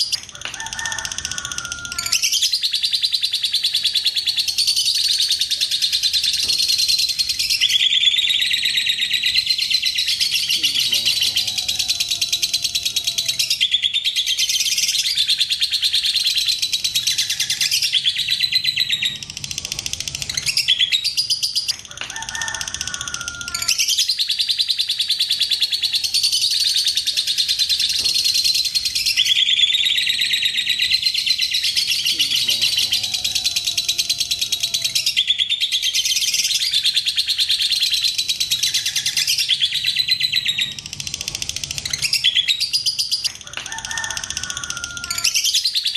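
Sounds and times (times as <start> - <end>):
lovebird chattering trill: 0.0 - 45.9.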